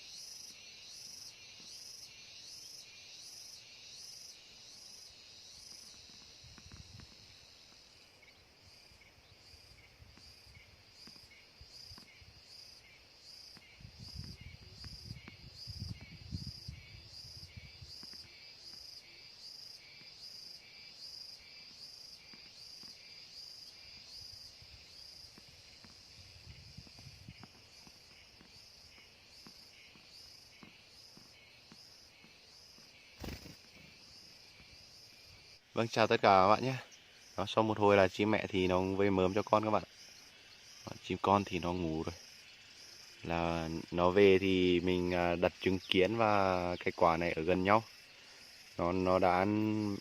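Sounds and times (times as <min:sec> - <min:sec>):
cricket chirping: 0:00.0 - 0:50.0.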